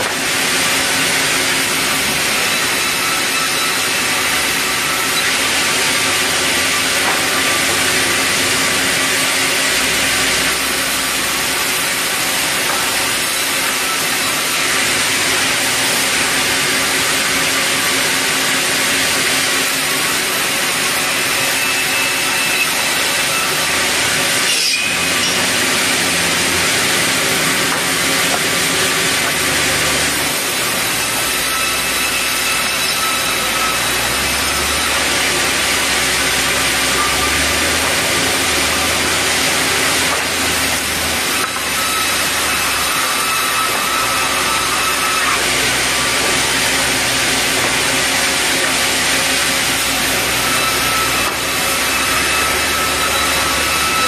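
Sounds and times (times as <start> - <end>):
band saw cutting timber: 0.0 - 54.0.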